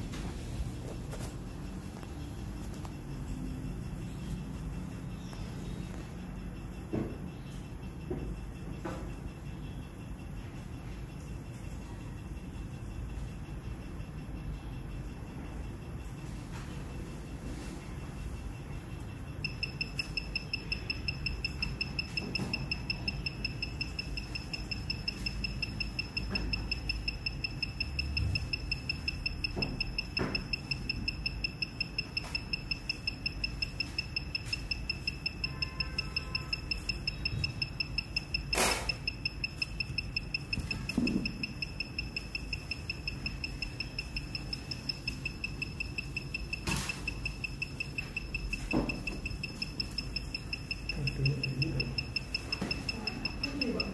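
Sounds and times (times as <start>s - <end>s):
high pulsing electronic beep: 0.0s - 53.9s.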